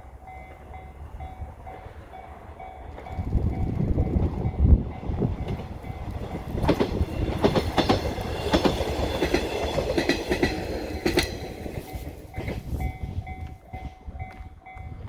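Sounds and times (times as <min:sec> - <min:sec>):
train wheels clicking over rail joints: 0:01.6 - 0:15.0.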